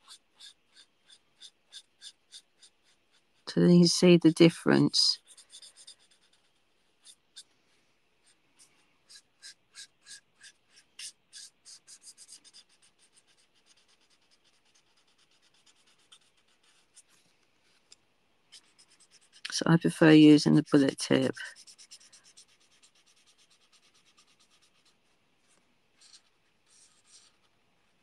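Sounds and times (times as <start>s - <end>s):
marker scratching on card: 0.0s - 7.5s, 8.2s - 17.8s, 18.5s - 19.6s, 20.5s - 28.0s.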